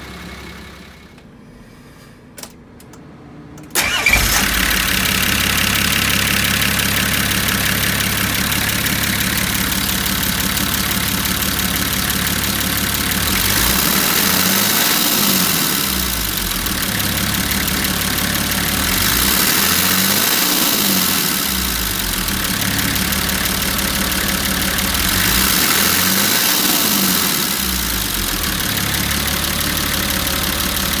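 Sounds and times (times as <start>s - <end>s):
diesel engine idling and revving: 0.0s - 1.2s, 2.8s - 31.0s.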